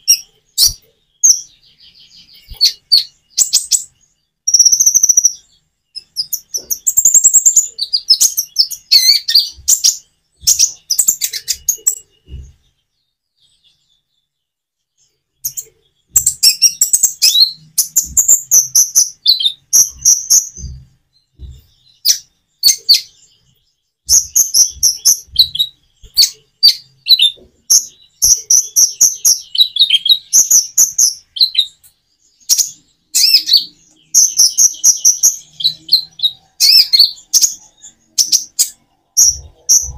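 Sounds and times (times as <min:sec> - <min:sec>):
sunbird chirping song: 0:00.0 - 0:39.9.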